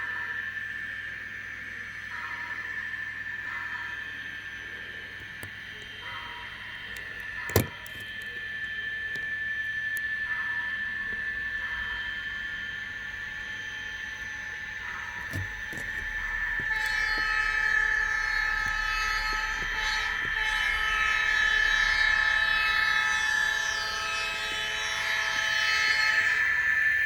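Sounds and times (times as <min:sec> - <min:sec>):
model train whine: 0:00.0 - 0:27.0.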